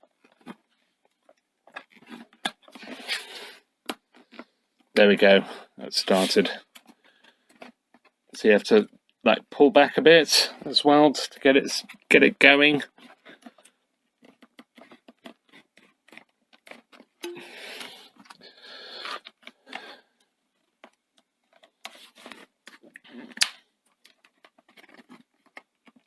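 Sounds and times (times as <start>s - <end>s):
plectrum scraping and clicking on plastic: 0.0s - 5.0s, 6.4s - 9.2s, 12.8s - 26.0s.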